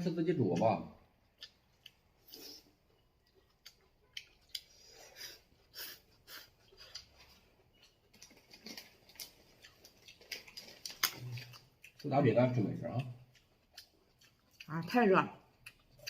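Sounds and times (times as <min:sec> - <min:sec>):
eating clicks and crunches: 0:00.4 - 0:16.0.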